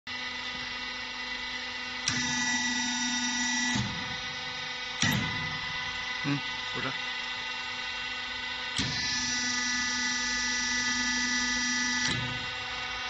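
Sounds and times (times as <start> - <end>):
bending machine humming: 0.1 - 13.0
hydraulic whine: 0.1 - 13.0.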